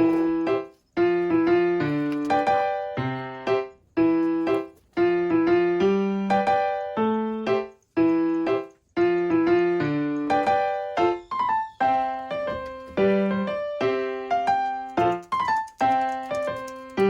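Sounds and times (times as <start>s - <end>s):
piano-like keyboard music: 0.0s - 17.0s.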